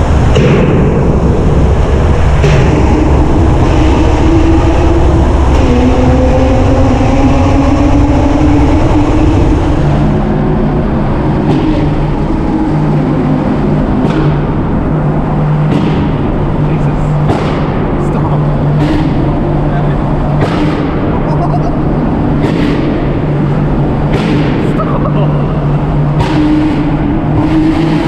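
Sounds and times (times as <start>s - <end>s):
car engine running loud: 0.0s - 28.0s
exhaust pops: 0.0s - 28.0s.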